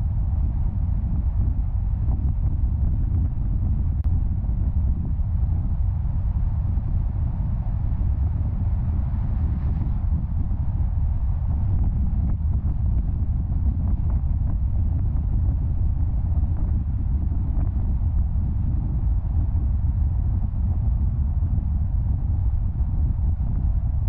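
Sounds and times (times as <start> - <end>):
wind noise: 0.0 - 24.0.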